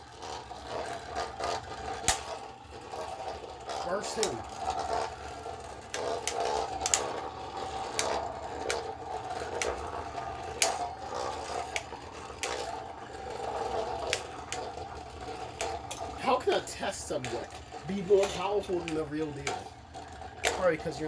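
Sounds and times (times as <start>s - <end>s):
spinning tops clacking: 0.0s - 21.0s
spinning tops whirring: 0.0s - 21.0s.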